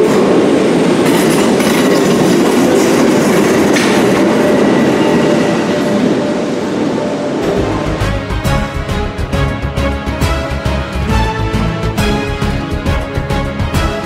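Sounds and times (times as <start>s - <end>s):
electric train pulling out: 0.0s - 14.0s.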